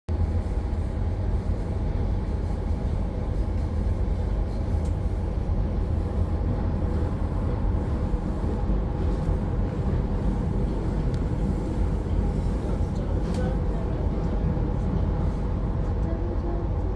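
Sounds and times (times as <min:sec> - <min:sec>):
train rumbling: 0:00.1 - 0:16.9.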